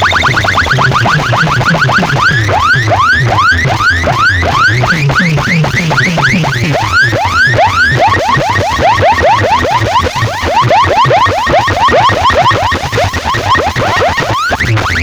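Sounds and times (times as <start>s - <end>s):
electronic siren-like whoops: 0.0s - 15.0s
pulsing bass: 0.0s - 15.0s.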